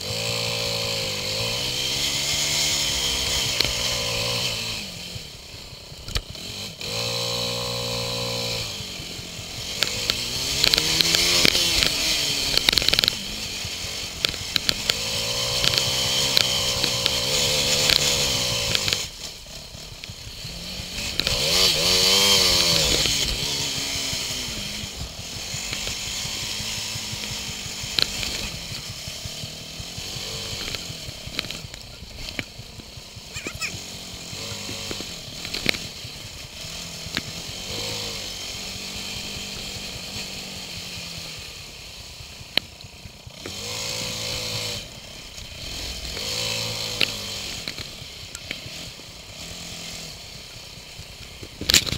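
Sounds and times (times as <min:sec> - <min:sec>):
quad bike engine revving: 0:00.0 - 0:51.9.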